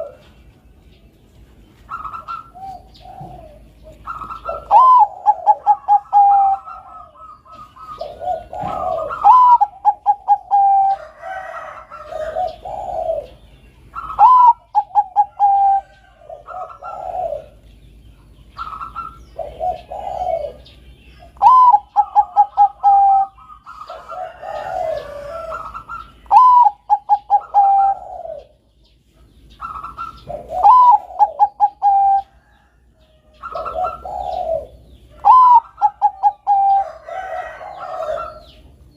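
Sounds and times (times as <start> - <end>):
dove cooing: 0.0 - 1.0, 1.8 - 17.7, 18.4 - 38.8.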